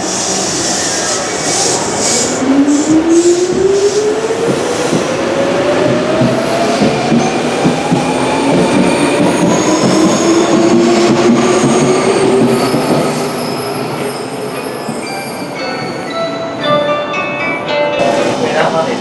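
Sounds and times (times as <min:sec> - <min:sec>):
wheels rumbling and squealing on rails: 0:00.0 - 0:17.6.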